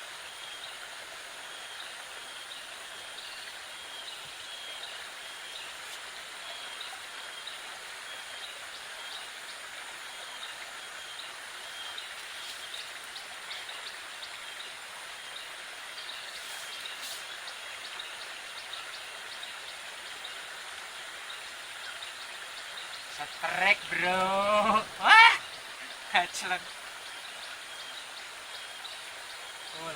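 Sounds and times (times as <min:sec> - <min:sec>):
river running over stones: 0:00.0 - 0:29.9.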